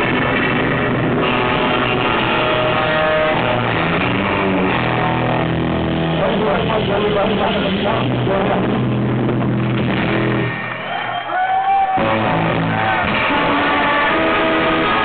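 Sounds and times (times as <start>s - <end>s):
electric guitar high gliding notes: 0.0s - 15.0s
surf rock band playing: 0.0s - 15.0s.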